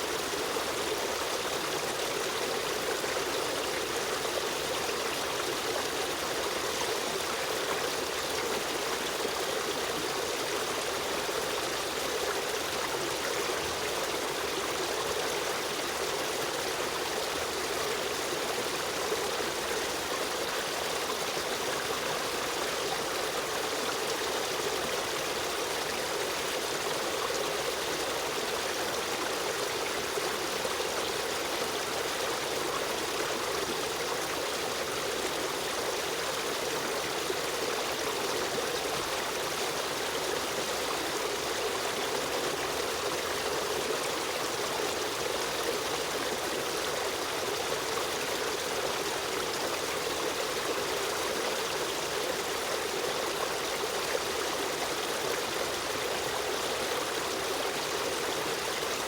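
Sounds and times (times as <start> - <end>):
stream running and trickling: 0.0 - 59.0.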